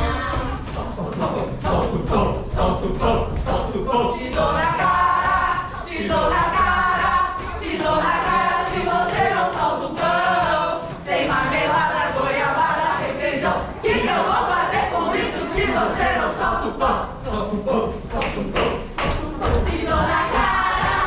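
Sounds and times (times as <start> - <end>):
group singing unaccompanied: 0.0 - 21.0.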